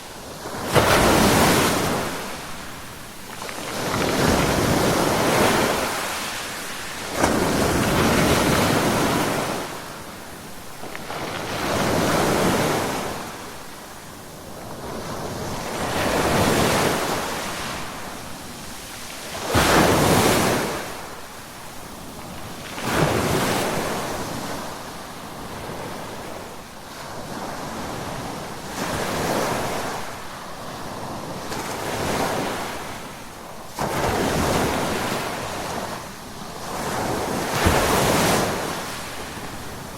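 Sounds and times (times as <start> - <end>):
waves crashing: 0.0 - 13.8, 14.7 - 24.8, 31.2 - 39.9
ocean waves washing ashore: 0.0 - 39.9.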